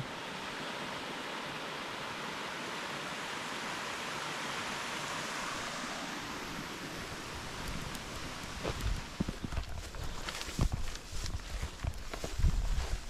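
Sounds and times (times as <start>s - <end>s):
mountain torrent rushing water: 0.0s - 13.0s.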